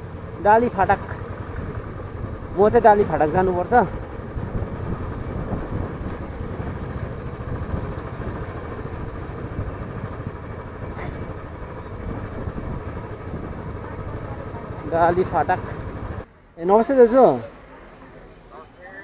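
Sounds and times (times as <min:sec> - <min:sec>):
motorcycle engine rumble: 0:00.0 - 0:18.5
road noise: 0:00.0 - 0:19.0.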